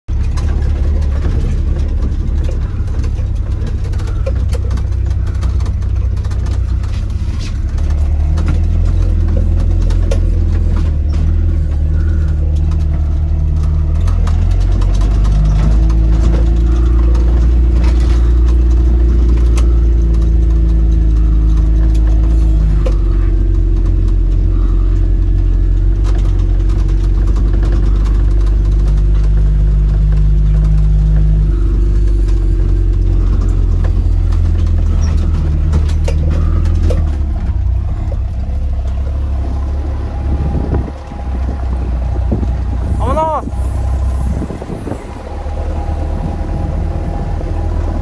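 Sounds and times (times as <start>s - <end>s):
jeep engine driving: 0.1s - 48.0s.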